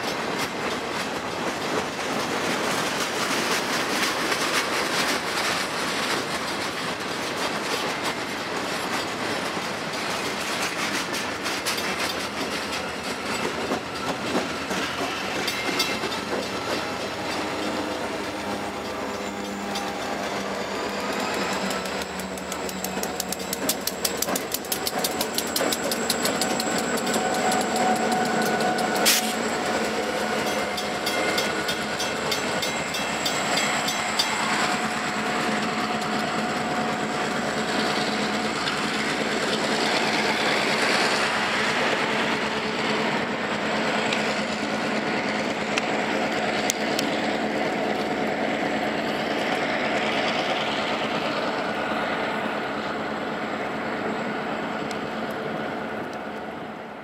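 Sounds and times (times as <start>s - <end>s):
wheels clacking over rail joints: 0.0s - 52.5s
diesel locomotives running: 0.0s - 57.0s.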